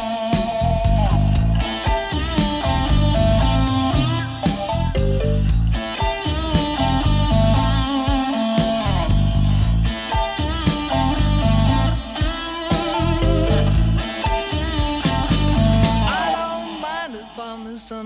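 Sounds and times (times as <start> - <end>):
bass guitar: 0.0 - 16.3
drums: 0.0 - 16.9
electric guitar lead lines: 0.0 - 18.0.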